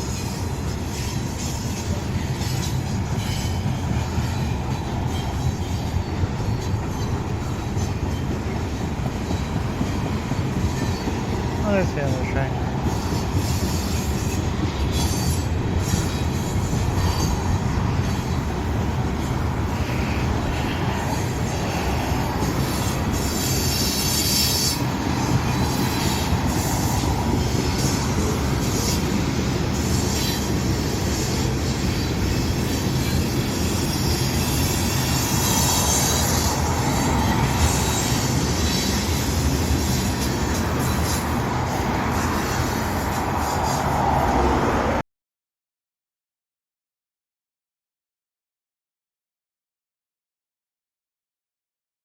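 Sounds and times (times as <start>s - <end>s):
high-pitched rail squeal: 0.0s - 45.0s
train wheels rumbling on rails: 0.0s - 45.0s.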